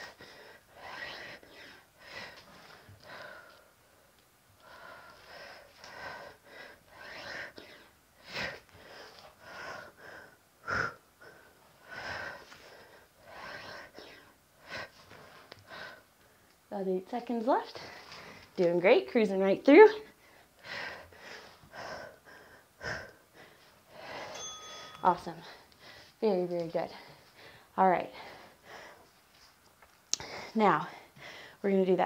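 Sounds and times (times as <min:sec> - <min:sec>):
woman breathing hard: 0:00.0 - 0:04.0, 0:04.6 - 0:16.5, 0:20.2 - 0:26.2, 0:26.9 - 0:29.2, 0:30.2 - 0:31.6.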